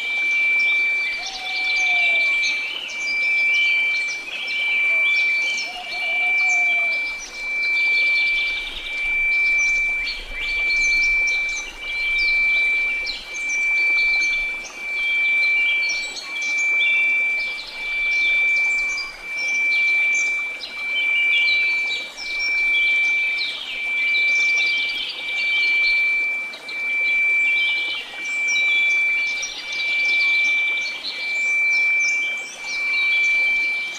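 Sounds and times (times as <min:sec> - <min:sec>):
birds chirping: 0:00.0 - 0:33.9
pure tone: 0:00.0 - 0:33.9.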